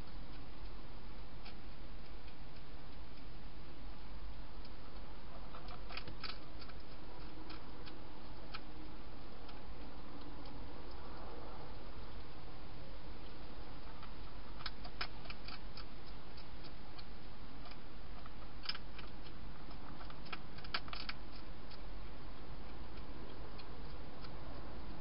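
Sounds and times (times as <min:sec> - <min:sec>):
hedgehog crunching dry food: 0:00.0 - 0:25.0.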